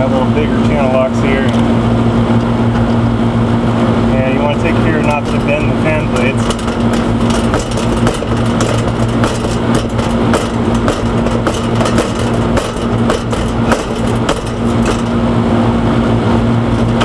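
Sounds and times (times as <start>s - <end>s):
steady low machine hum: 0.0s - 17.0s.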